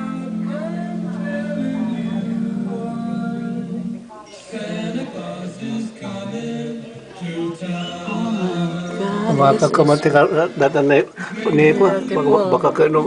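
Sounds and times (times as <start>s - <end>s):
music with singing: 0.0s - 13.0s.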